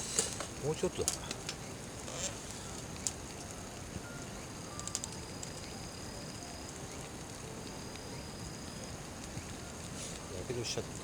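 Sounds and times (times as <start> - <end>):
campfire hissing and crackling: 0.0 - 11.0.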